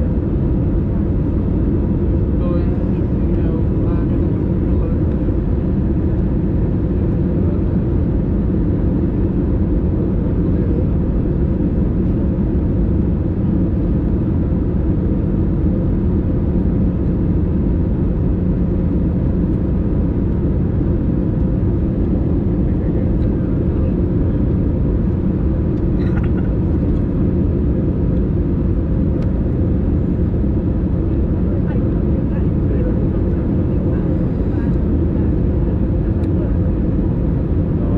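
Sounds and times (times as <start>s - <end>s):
airflow over fuselage: 0.0s - 37.9s
jet engines droning: 0.0s - 37.9s.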